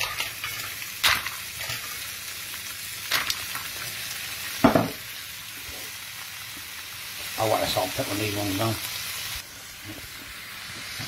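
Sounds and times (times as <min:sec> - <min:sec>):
mussels sizzling in a frying pan: 0:00.0 - 0:11.0.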